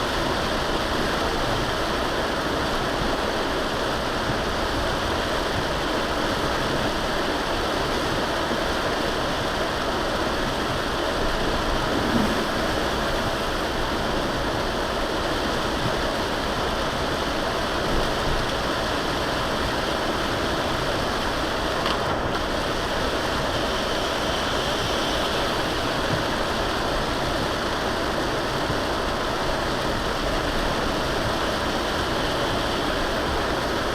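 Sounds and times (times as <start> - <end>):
rain: 0.0 - 33.9
tyres hissing on wet road: 0.0 - 33.9.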